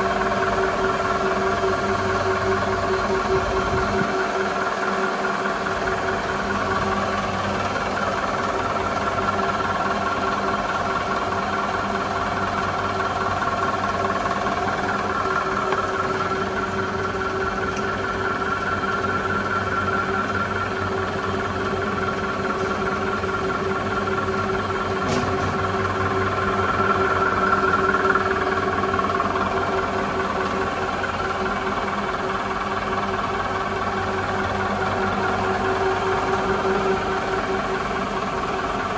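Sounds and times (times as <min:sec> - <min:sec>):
machine humming with held tones: 0:00.0 - 0:38.9.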